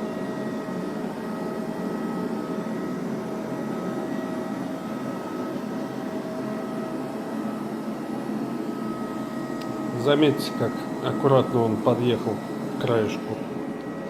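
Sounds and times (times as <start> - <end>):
robot vacuum humming: 0.0 - 14.0.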